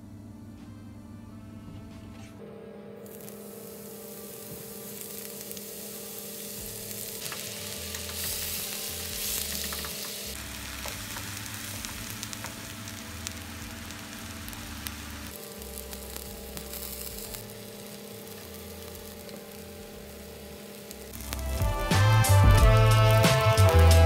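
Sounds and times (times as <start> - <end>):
mushrooms sizzling in frying pan: 3.1 - 24.0.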